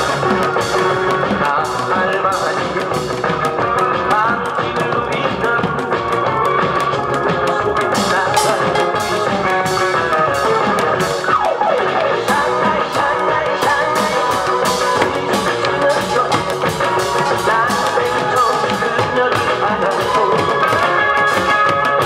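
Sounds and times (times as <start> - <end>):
amplified backing track: 0.0 - 22.0
barrel drums beating: 0.0 - 22.0.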